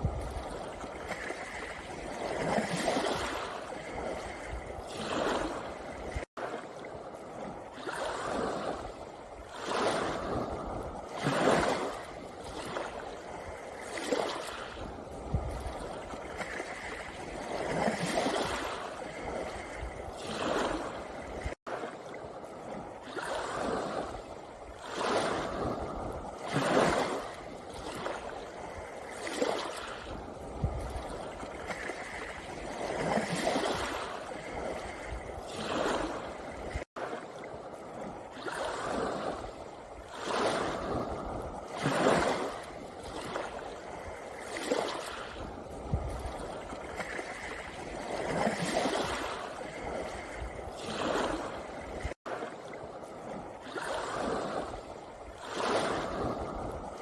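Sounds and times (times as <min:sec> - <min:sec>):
waves washing over pebble beach: 0:00.0 - 0:57.0.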